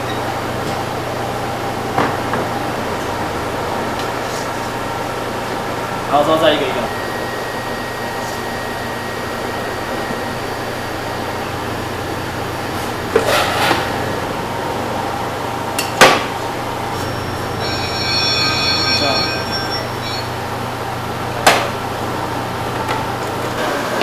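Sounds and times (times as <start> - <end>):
steady low hum: 0.0 - 23.6.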